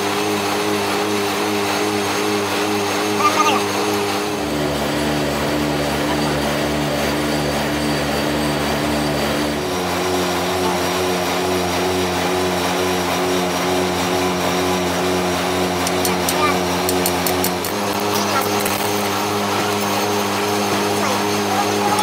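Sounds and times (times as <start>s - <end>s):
motor droning hum: 0.0s - 22.0s.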